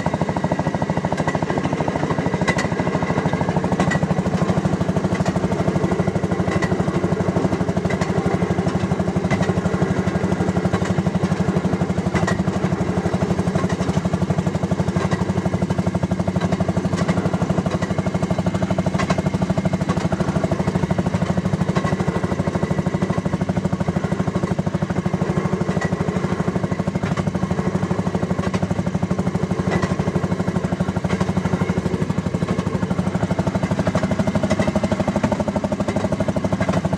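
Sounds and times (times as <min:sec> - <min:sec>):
two-stroke engine putt-putt: 0:00.0 - 0:36.9.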